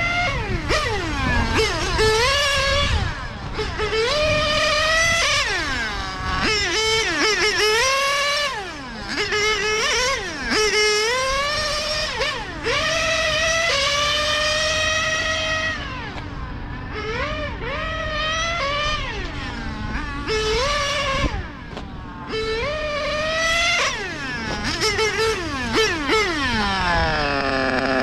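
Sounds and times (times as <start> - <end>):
nitro engine revving high-pitched: 0.0 - 28.0.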